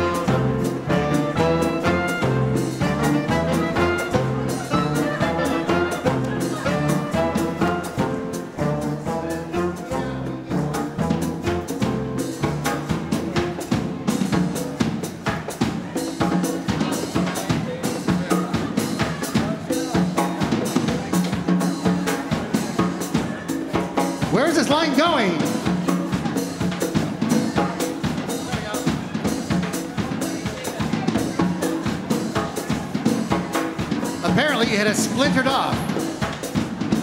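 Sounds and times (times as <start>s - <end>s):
prominent drum beat: 0.0s - 9.2s, 10.4s - 37.0s
latin dance band playing: 0.0s - 37.0s.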